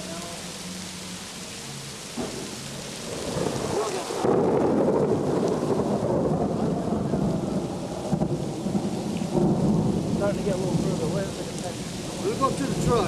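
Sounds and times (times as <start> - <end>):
steady rain hiss: 0.0 - 13.0
rolling thunder: 2.2 - 13.0.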